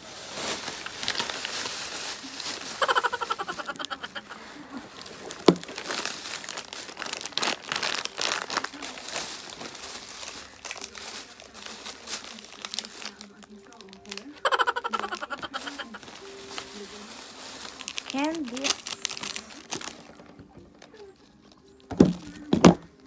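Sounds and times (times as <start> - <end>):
candy wrappers rustling: 0.0 - 23.0
plastic bag crinkling: 0.0 - 23.0.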